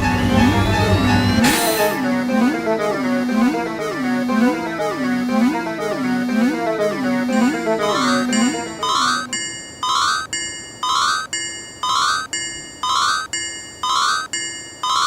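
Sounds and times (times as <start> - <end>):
gliding synth melody: 0.0 - 14.3
level crossing alarm bell ringing: 0.0 - 15.0.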